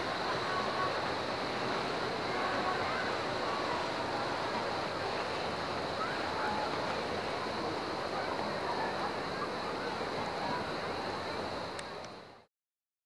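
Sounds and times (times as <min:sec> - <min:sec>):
small surf lapping: 0:00.0 - 0:12.4.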